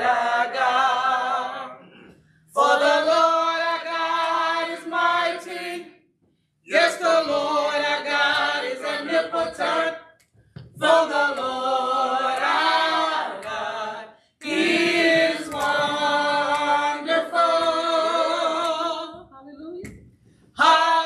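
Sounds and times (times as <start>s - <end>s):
choir singing a cappella: 0.0s - 19.3s, 20.5s - 21.0s.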